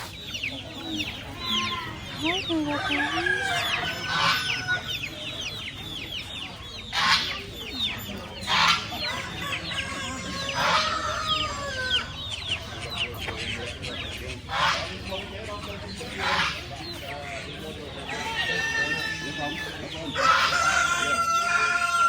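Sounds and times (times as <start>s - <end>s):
adult chickens harsh calls: 0.0s - 22.0s
chicks peeping: 0.0s - 22.0s.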